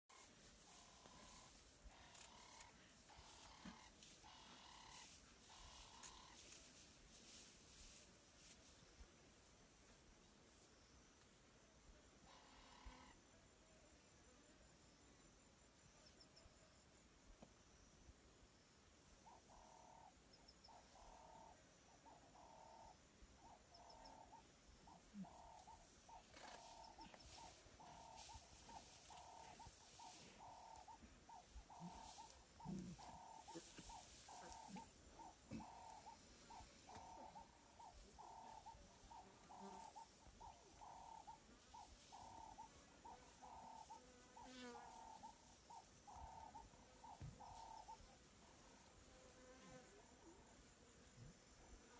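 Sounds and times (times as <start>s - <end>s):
faint rhythmic animal calls: 0.0s - 51.9s.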